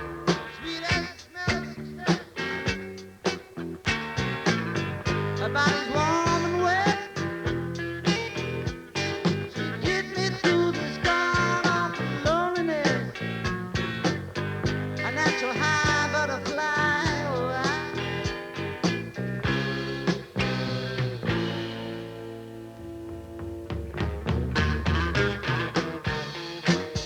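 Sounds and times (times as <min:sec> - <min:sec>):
rock band playing: 0:00.0 - 0:27.0
lead guitar line bending pitch: 0:01.5 - 0:27.0.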